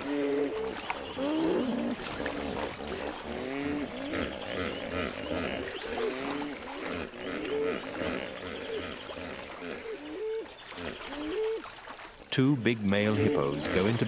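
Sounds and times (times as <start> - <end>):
hippopotamuses grunting and honking: 0.0 - 11.6, 13.0 - 14.0.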